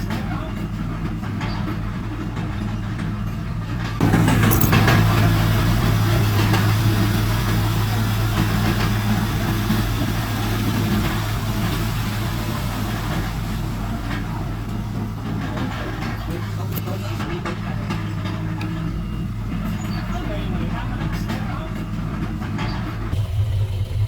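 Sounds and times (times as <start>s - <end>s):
heavy diesel machinery engine drone: 0.0s - 24.0s.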